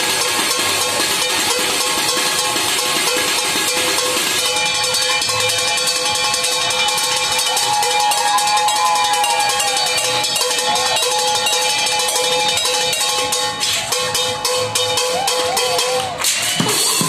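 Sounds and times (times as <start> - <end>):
steady ringing tone: 0.0 - 16.0
pots and buckets struck rhythmically: 0.0 - 17.0.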